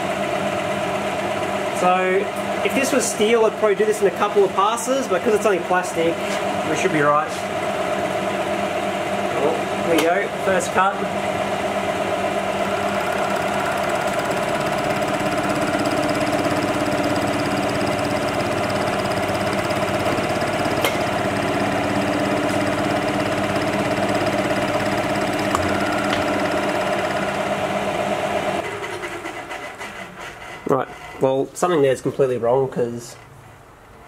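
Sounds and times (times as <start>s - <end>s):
milling machine humming: 0.0s - 31.3s.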